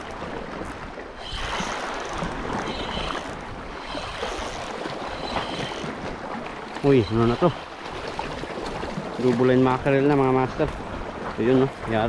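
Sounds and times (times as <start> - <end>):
sea waves washing against rocks: 0.0 - 12.0
wind: 0.0 - 12.0.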